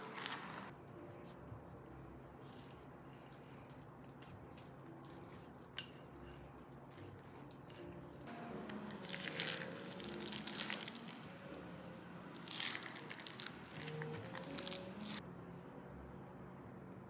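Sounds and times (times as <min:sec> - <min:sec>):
spatula squishing dough in bowl: 0:00.0 - 0:15.2.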